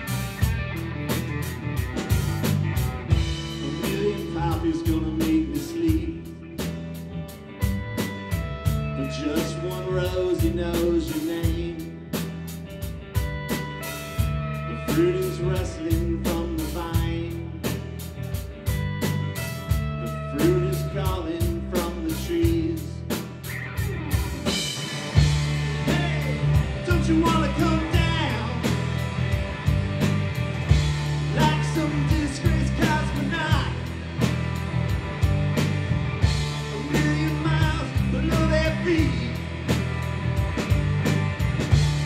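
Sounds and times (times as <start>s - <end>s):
bass guitar: 0.0s - 42.0s
drum kit with cymbal hits: 0.0s - 42.0s
electric guitars: 0.0s - 42.0s.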